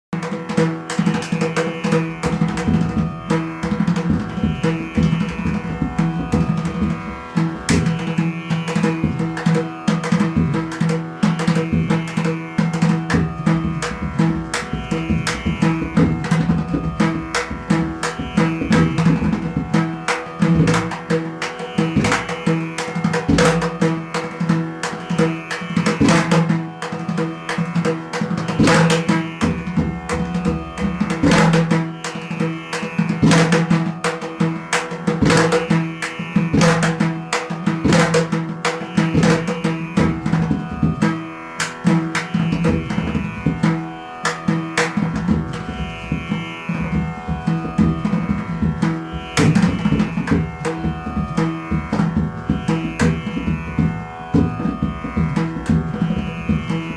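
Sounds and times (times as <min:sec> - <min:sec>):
hand drum strokes: 0:00.2 - 0:56.9
plucked strings: 0:00.2 - 0:56.9
steady drone: 0:00.5 - 0:56.9.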